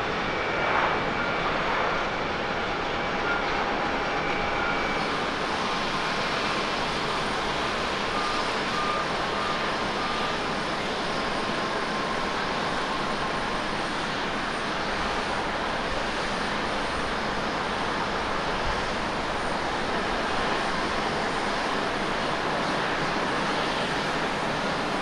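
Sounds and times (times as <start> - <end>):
jet engine rushing: 0.0 - 25.0.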